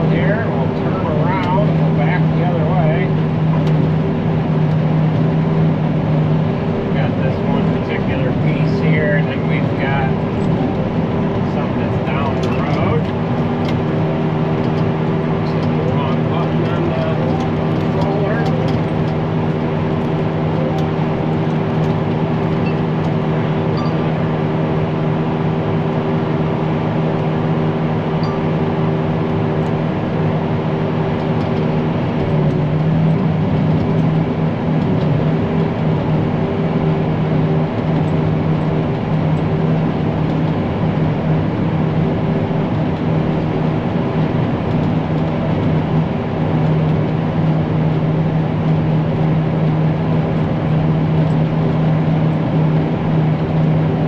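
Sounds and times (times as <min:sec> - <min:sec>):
tractor engine under load: 0:06.8 - 0:54.0.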